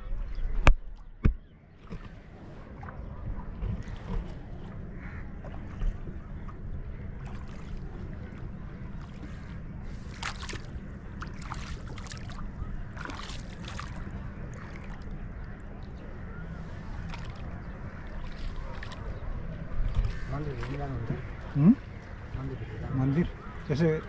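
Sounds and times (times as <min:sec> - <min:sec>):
water sloshing against boat: 0:00.1 - 0:24.0
water splashes: 0:00.6 - 0:23.5.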